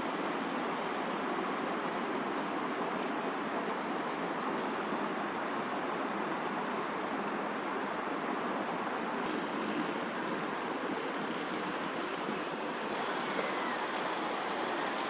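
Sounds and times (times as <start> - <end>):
distant city traffic roar: 0.0 - 15.0.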